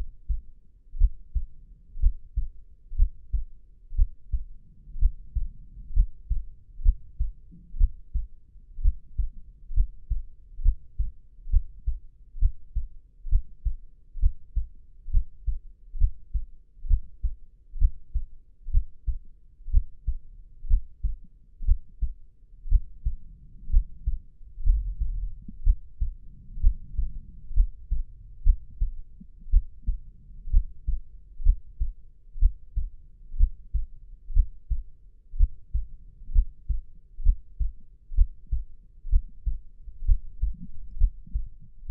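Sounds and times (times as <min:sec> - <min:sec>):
heartbeat double thumps: 0:00.0 - 0:41.9.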